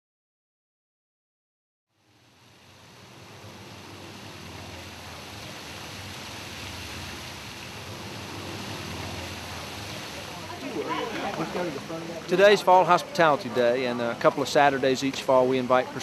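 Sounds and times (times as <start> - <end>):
fountain water splashing: 2.0 - 16.0.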